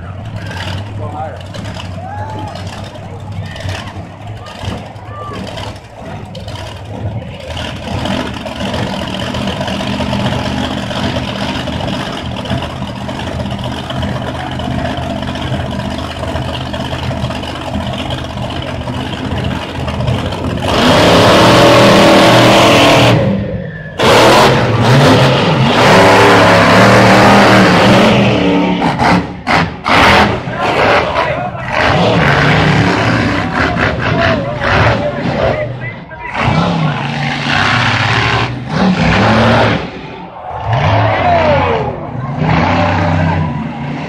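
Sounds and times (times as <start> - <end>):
monster truck engines revving: 0.0 - 44.0.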